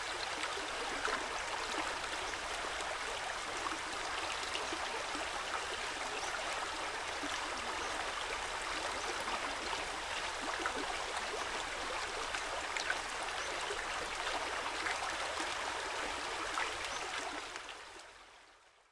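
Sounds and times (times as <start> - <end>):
stream water flowing: 0.0 - 18.4.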